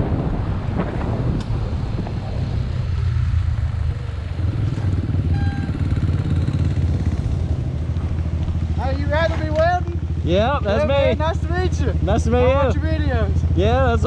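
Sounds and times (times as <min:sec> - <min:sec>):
dirt bike engines running: 0:00.0 - 0:14.0.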